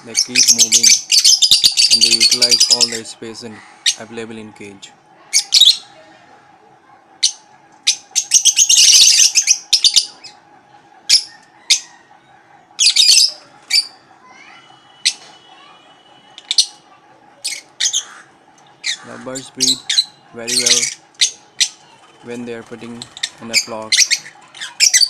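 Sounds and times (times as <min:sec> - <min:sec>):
lovebirds chirping and squawking: 0:00.0 - 0:06.3, 0:07.1 - 0:25.0.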